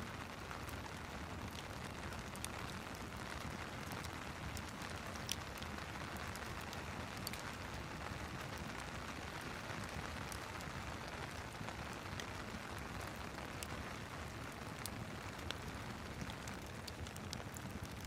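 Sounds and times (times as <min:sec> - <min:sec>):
steady rain hiss: 0:00.0 - 0:18.0
wood fire crackling: 0:00.0 - 0:18.0.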